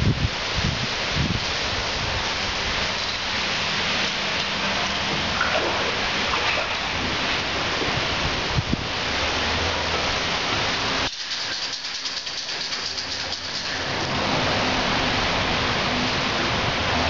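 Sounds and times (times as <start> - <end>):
rain and wind rushing: 0.0 - 17.0.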